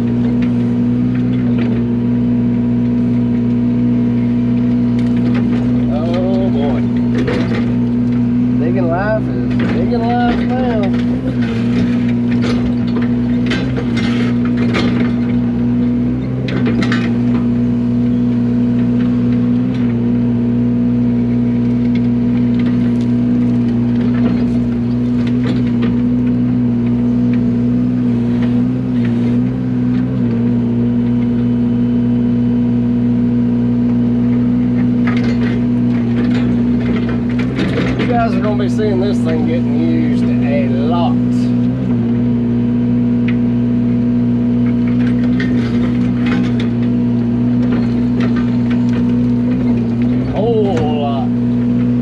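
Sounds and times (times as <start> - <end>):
diesel excavator engine running: 0.0 - 52.0.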